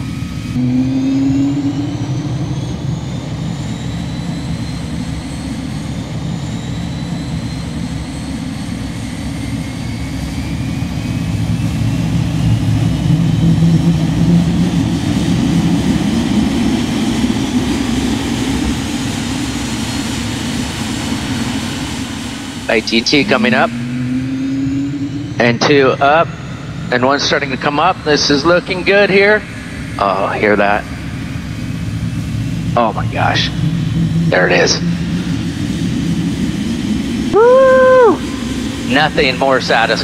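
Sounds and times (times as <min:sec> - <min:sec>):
jet engine spooling up: 0:00.0 - 0:40.0
low rumble: 0:00.0 - 0:40.0.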